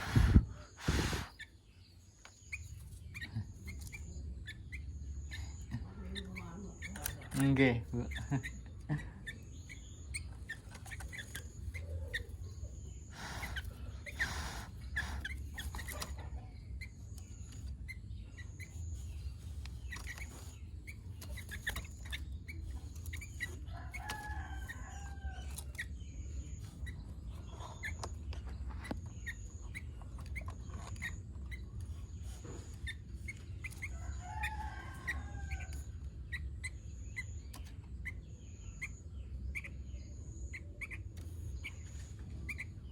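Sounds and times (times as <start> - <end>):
bird chirping: 0.0 - 42.9
steady low hum: 0.0 - 42.9.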